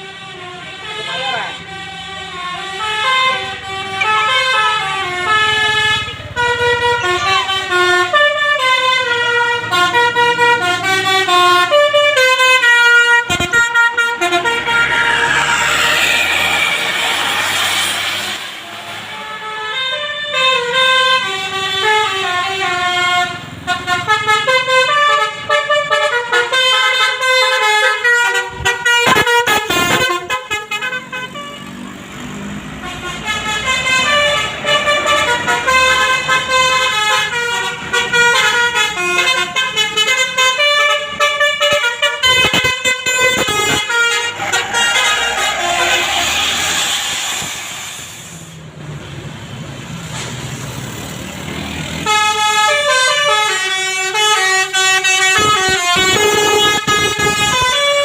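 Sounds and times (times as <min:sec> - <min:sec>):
bus horn playing a tune: 0:00.0 - 0:48.6, 0:51.8 - 0:58.0.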